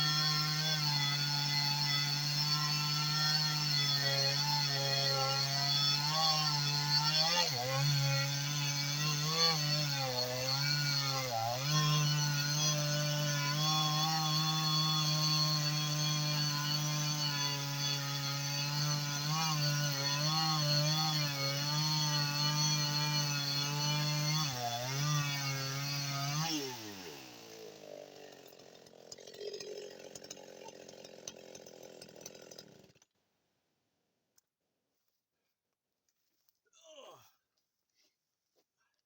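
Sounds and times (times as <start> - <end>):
chainsaw cutting through log: 0.0 - 33.1.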